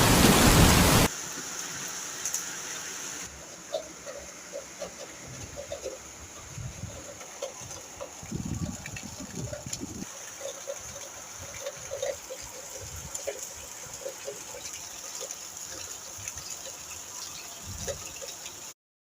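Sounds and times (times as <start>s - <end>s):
rain falling steadily: 0.0s - 18.8s
drips and patters: 3.2s - 18.8s.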